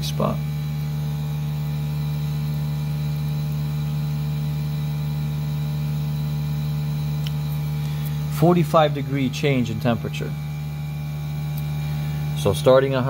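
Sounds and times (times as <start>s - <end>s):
heat pump unit humming: 0.0s - 13.0s.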